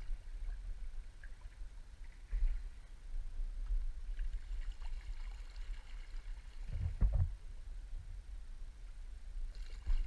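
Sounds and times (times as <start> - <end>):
steady low rumble: 0.0 - 5.1, 6.2 - 9.9.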